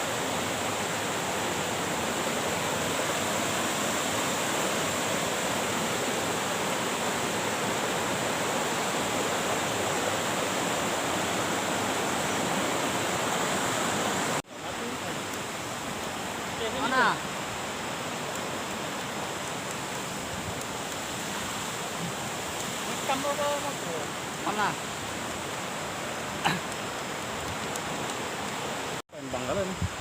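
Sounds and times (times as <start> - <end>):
waterfall: 0.0 - 30.0.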